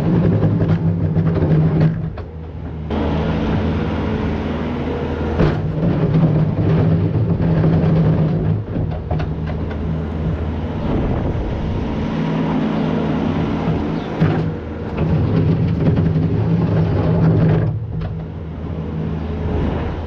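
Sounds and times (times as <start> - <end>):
farm machinery engine droning: 0.0 - 20.0.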